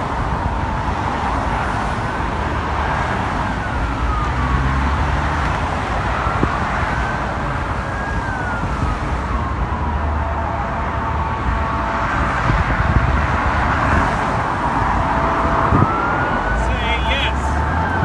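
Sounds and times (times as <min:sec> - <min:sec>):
traffic rumble: 0:00.0 - 0:18.0
siren wailing: 0:00.6 - 0:18.0.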